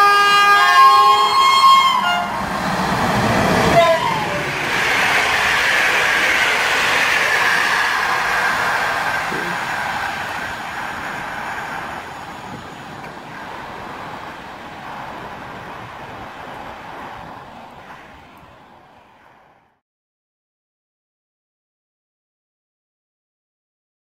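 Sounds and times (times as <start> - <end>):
train wheels rushing on rails: 0.0 - 19.8.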